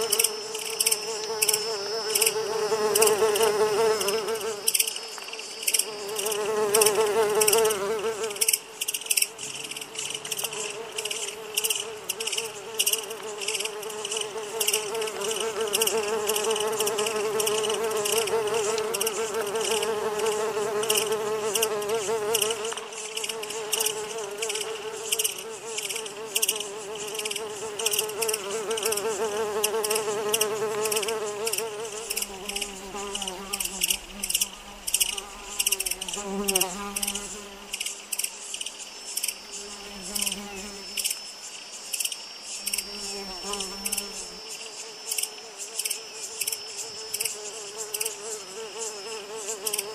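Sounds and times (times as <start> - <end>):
insect swarm buzzing: 0.0 - 49.9.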